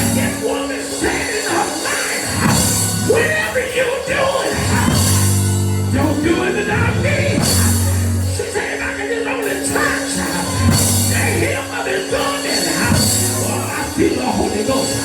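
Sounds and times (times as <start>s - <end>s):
low bass and organ notes: 0.0s - 1.3s, 2.3s - 3.8s, 4.5s - 15.0s
church band music: 0.0s - 15.0s
preacher giving a sermon: 0.0s - 15.0s.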